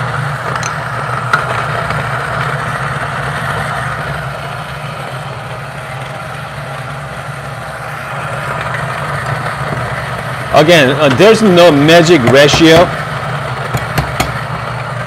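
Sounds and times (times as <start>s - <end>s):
espresso machine pump humming: 0.0s - 15.0s.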